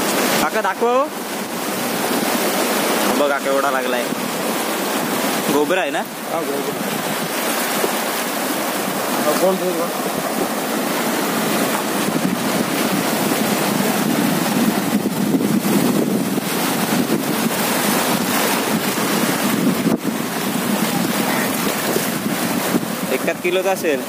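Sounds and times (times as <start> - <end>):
sea waves washing on shore: 0.0 - 24.0
wind buffeting microphone: 4.0 - 23.5.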